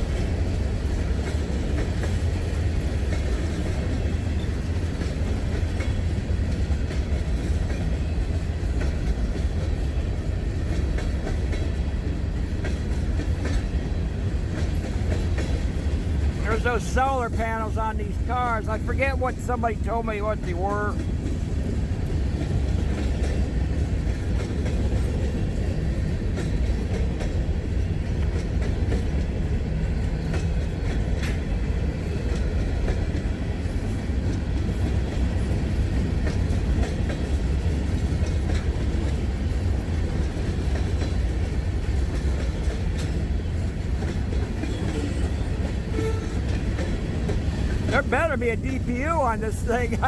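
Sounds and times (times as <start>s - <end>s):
wheels clicking over rail joints: 0.0s - 17.7s, 20.9s - 48.2s
train wheels rumbling: 0.0s - 50.0s.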